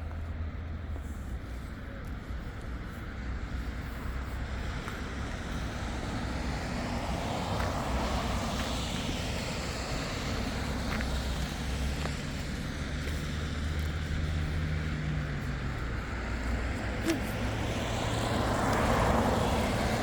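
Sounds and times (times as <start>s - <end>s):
rumble of street traffic: 0.0s - 20.0s
vehicle passing: 3.8s - 20.0s.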